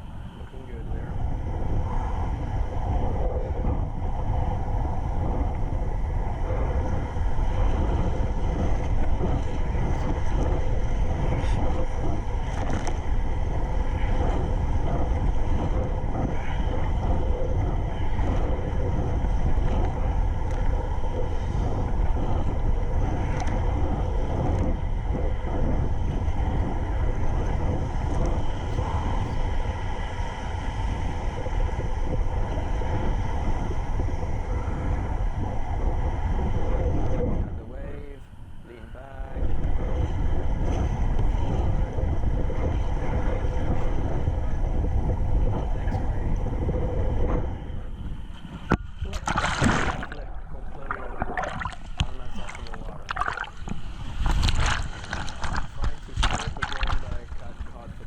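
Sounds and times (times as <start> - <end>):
wind rumbling on microphone: 0.0 - 58.0
waves slapping a kayak: 0.6 - 38.0, 38.8 - 58.0.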